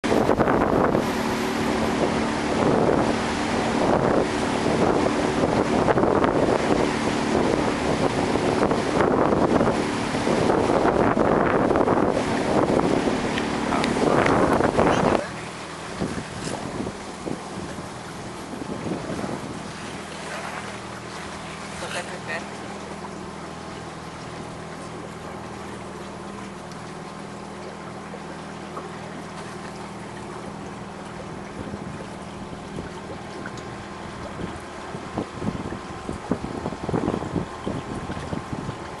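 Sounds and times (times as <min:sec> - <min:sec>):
outboard motor running: 0:00.0 - 0:39.0
wind buffeting microphone: 0:00.0 - 0:39.0.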